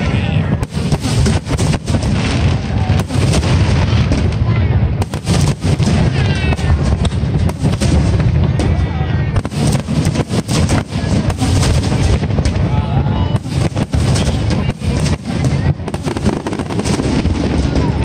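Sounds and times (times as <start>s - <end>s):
fireworks bangs and crackles: 0.0s - 18.0s
low rumble: 0.0s - 18.0s.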